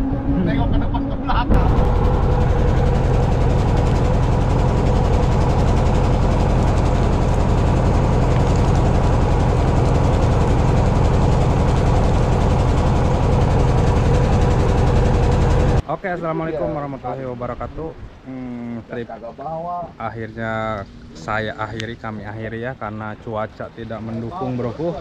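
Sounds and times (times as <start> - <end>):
boat engine droning: 0.0 - 15.9, 18.1 - 25.0.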